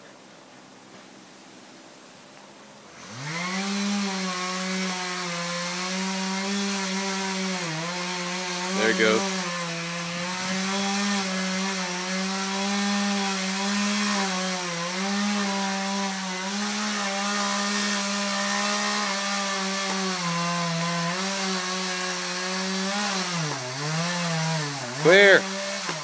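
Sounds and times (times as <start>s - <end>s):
chainsaw cutting tree trunk: 2.9s - 26.0s.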